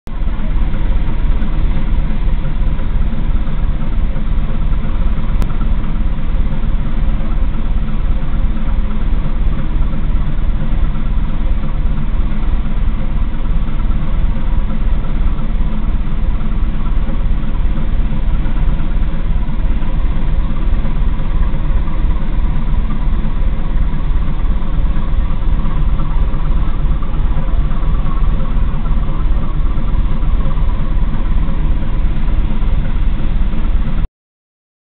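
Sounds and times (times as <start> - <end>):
ferry diesel engine throbbing: 0.1 - 34.1
steady hum: 0.1 - 34.1.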